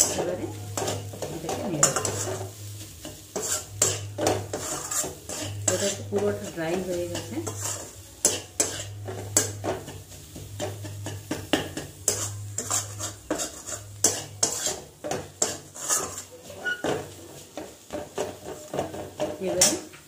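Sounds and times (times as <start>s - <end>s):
metal spatula scraping a wok: 0.0s - 19.9s.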